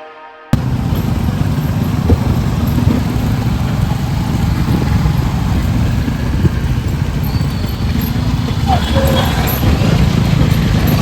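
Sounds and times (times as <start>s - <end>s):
motorcycle engine and road noise: 0.6s - 11.0s.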